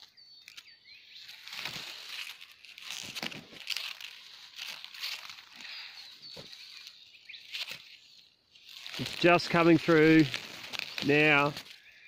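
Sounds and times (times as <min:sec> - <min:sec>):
dry grass rustling and crackling: 0:00.0 - 0:12.0.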